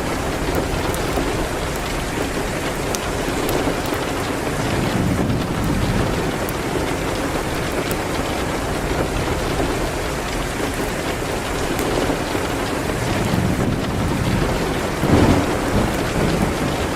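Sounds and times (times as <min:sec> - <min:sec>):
heavy rain: 0:00.0 - 0:16.9.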